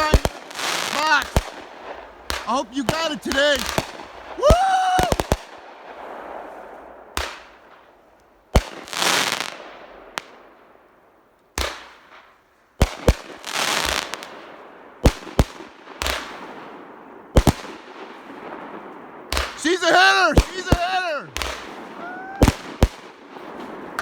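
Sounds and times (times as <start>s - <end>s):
firework bangs: 0.0s - 10.4s, 11.6s - 24.0s
firework crackling: 0.0s - 10.4s, 11.6s - 24.0s.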